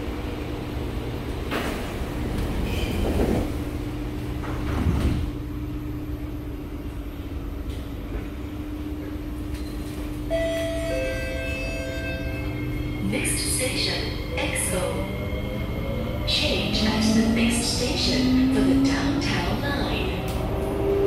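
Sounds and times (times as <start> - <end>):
train electrical hum: 0.0 - 21.0
train doors shutting: 1.0 - 5.5, 7.6 - 21.0.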